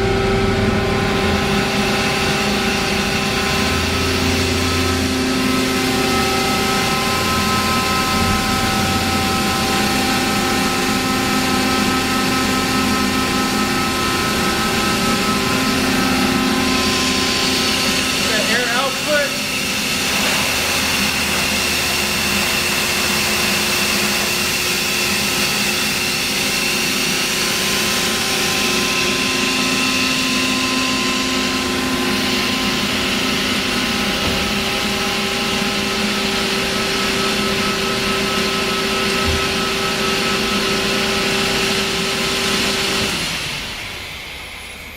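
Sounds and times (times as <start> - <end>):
air compressor humming: 0.0 - 44.9.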